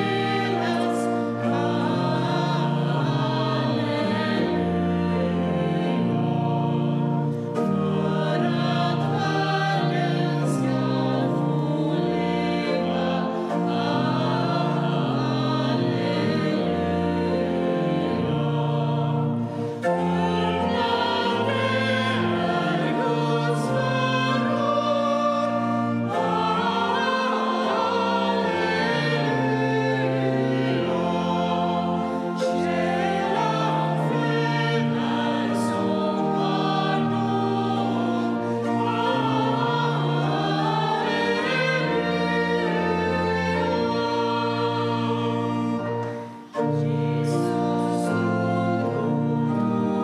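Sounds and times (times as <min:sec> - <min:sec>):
people singing: 0:00.0 - 0:50.0
pipe organ chords: 0:00.0 - 0:50.0.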